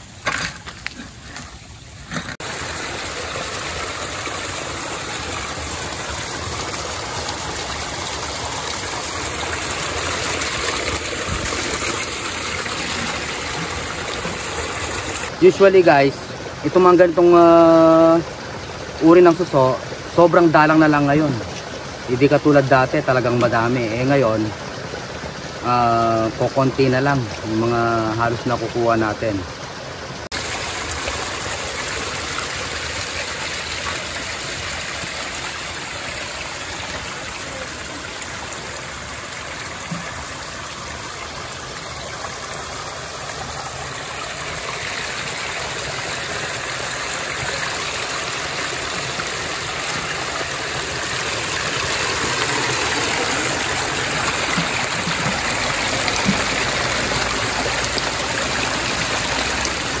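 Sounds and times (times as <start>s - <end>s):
stream water rushing: 0.0s - 60.0s.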